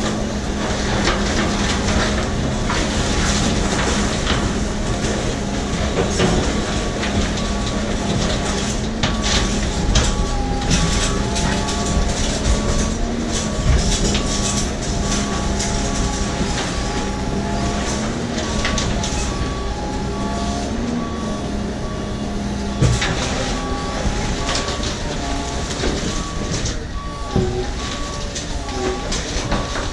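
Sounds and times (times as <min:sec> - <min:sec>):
debris cracking and crunching: 0:00.0 - 0:29.9
truck engine and hydraulics: 0:00.0 - 0:29.9
electronic warning beeps: 0:05.3 - 0:29.9.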